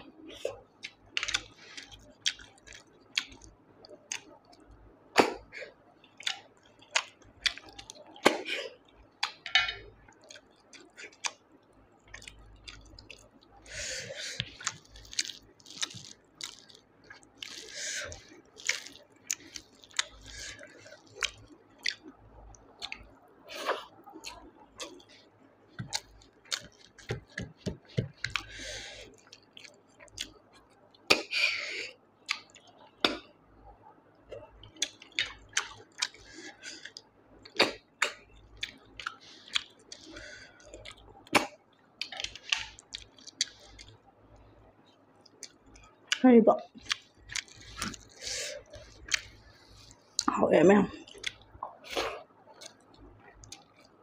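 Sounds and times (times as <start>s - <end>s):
chewing and mouth smacks: 0.1s - 31.3s, 32.2s - 50.3s, 51.0s - 54.0s.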